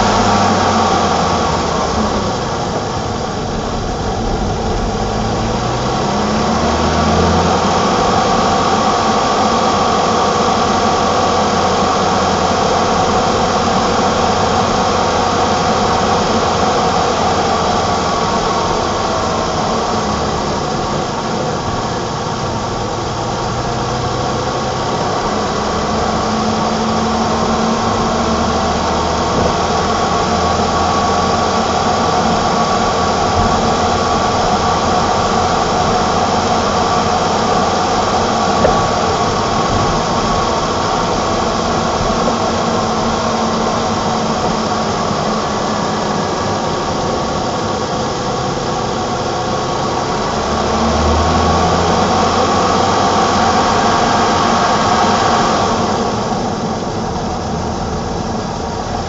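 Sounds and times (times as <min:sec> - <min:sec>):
car engine running: 0:00.0 - 0:59.0.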